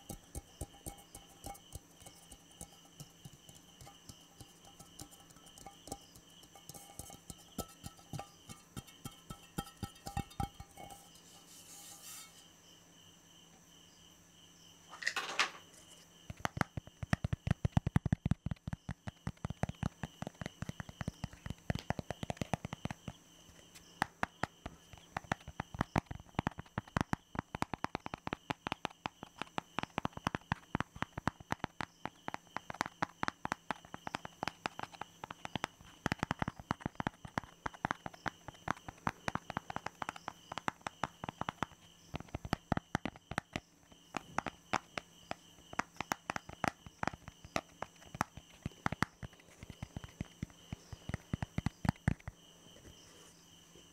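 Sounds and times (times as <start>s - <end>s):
rapid hand tapping: 0.0s - 11.4s, 16.2s - 52.4s.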